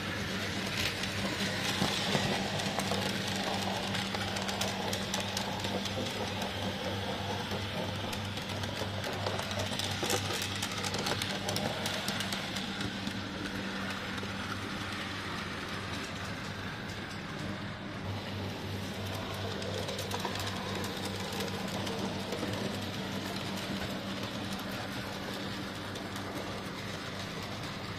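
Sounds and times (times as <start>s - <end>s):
model train motors humming: 0.0s - 27.9s.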